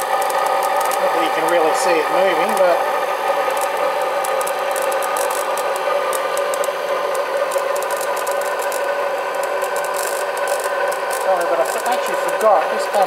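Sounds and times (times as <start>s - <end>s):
fast irregular clicking and crackling: 0.0s - 13.0s
motor-generator hum-whine: 0.0s - 13.0s.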